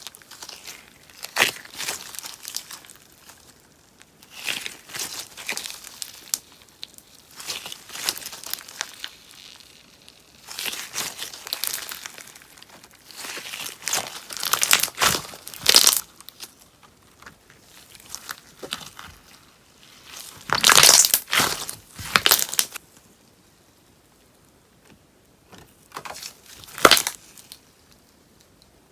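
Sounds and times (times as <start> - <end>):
slime crackling and popping: 0.0 - 22.8, 26.0 - 28.0.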